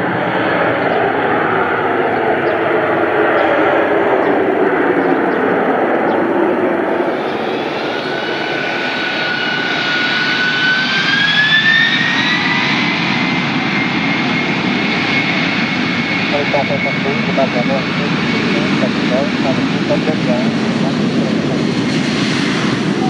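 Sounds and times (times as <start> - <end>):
high jet engine whine: 0.0 - 23.0
jet engines running: 0.0 - 23.0.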